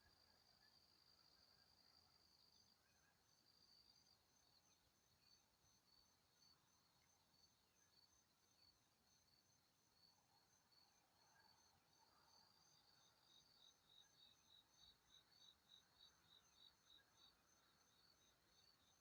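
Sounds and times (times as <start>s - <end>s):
faint insect chirping: 0.0s - 19.0s.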